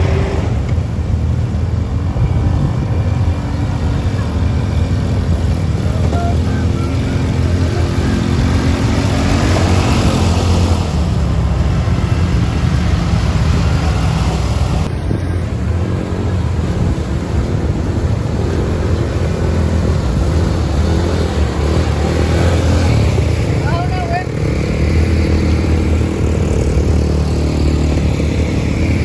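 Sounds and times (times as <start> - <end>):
vehicle engine rumbling: 0.0 - 29.0.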